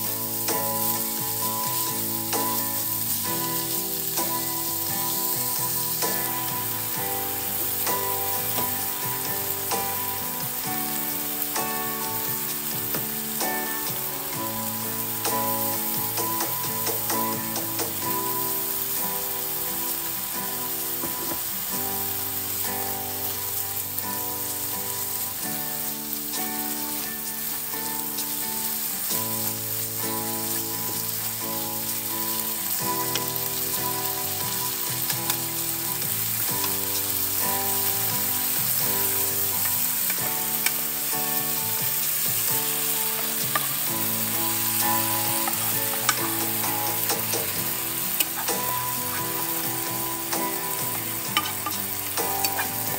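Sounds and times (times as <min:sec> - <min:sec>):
food sizzling in a pan: 0:00.0 - 0:52.9
slow background music: 0:00.0 - 0:52.9.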